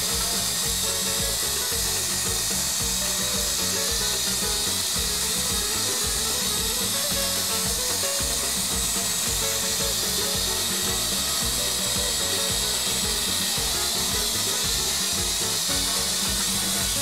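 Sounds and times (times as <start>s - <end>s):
toy helicopter rotors whirring: 0.0s - 17.0s.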